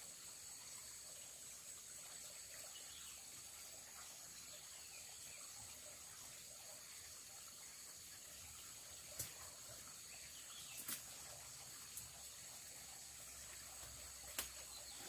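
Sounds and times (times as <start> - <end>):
forest stream trickling: 0.0 - 15.0.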